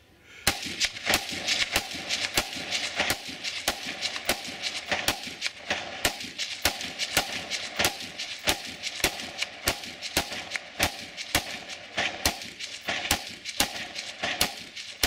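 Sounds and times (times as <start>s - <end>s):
rifle shots: 0.4s - 15.0s.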